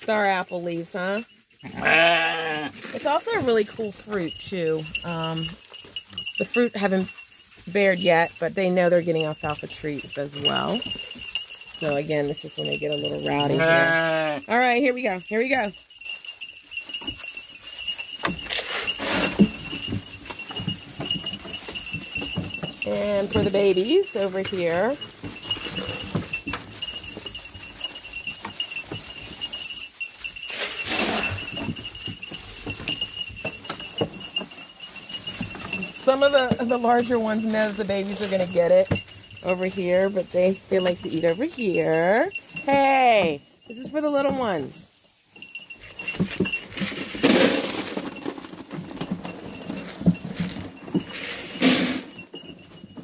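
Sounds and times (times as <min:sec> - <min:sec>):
knocks of hooves and eating: 0:00.0 - 0:53.0.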